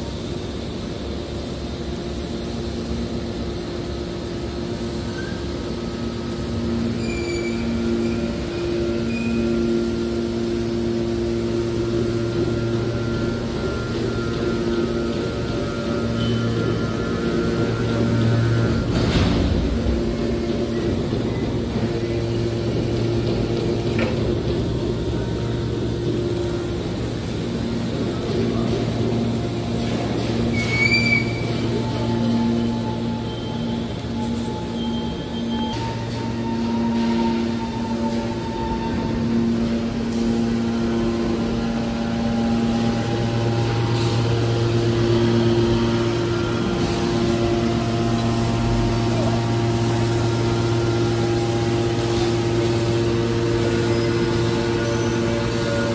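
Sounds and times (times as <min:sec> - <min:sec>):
hydraulic baler humming: 0:00.0 - 0:55.9.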